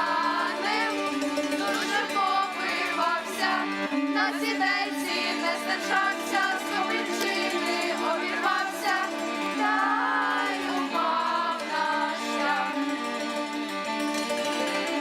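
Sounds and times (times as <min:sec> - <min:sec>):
folk carol singing: 0:00.0 - 0:15.0
steady musical backing: 0:00.0 - 0:15.0.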